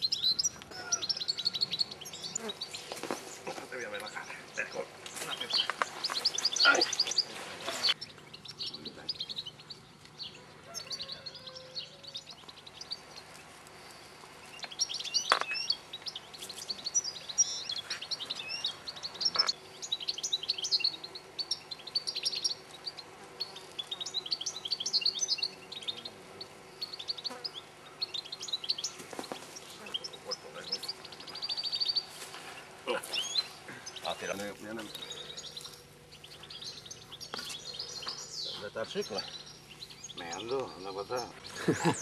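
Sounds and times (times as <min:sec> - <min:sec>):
goldfinches twittering: 0:00.0 - 0:42.0.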